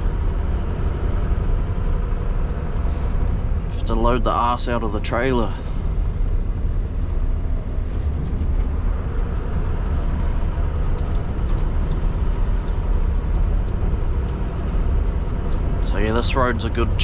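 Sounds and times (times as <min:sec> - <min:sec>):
road noise: 0:00.0 - 0:17.0
truck engine droning: 0:00.0 - 0:17.0.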